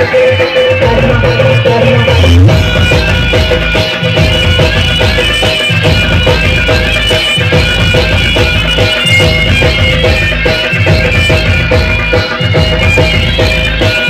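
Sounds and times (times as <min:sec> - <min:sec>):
folk dance music: 0:00.0 - 0:14.0.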